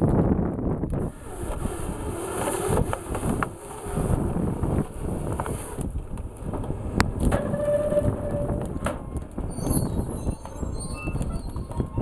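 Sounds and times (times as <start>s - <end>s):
machine rumble: 0.0s - 12.0s.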